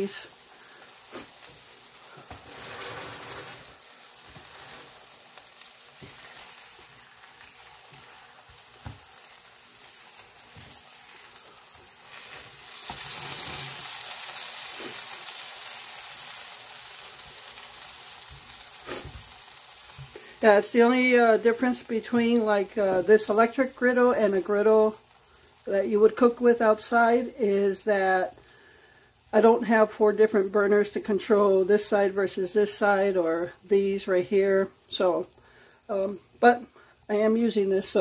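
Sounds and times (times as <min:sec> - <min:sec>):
burger patties sizzling on griddle: 0:00.0 - 0:38.0.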